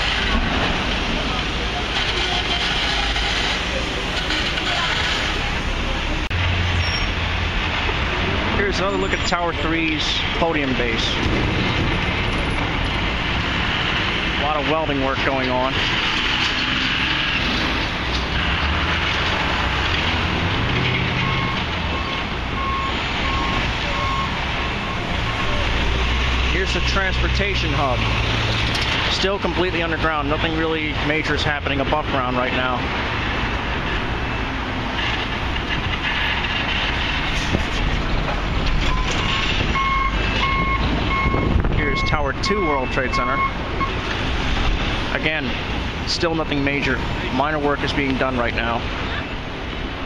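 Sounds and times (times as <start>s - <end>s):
construction site din: 0.0s - 50.0s
heavy vehicle engines rumbling: 0.0s - 50.0s.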